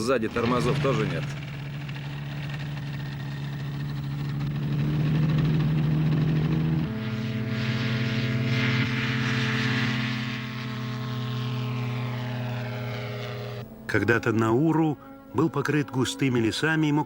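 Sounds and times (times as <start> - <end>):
propeller aircraft engine running: 0.0 - 14.0.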